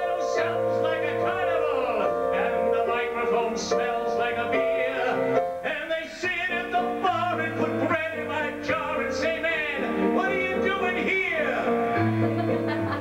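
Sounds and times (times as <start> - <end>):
country music: 0.0 - 13.0.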